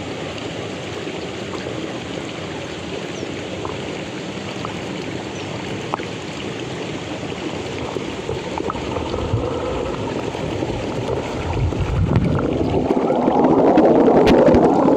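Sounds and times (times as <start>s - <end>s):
mountain stream rushing: 0.0s - 14.9s.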